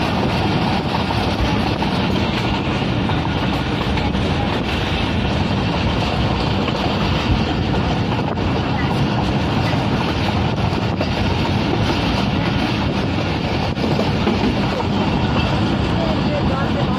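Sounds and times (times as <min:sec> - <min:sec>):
train wheels on rails: 0:00.0 - 0:16.9.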